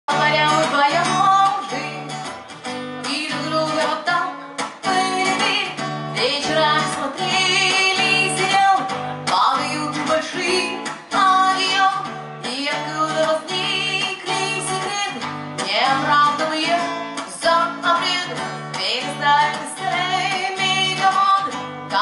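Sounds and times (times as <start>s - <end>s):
acoustic guitar: 0.1s - 22.0s
woman singing: 0.1s - 22.0s.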